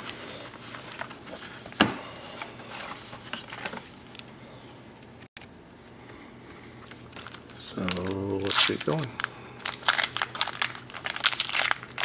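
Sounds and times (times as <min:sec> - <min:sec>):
wax paper packs rustling: 0:00.0 - 0:04.2, 0:06.5 - 0:12.0.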